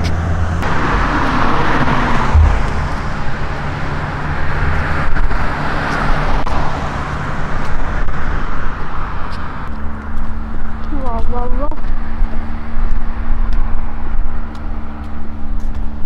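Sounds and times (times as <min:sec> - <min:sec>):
highway traffic rushing by: 0:00.0 - 0:16.0.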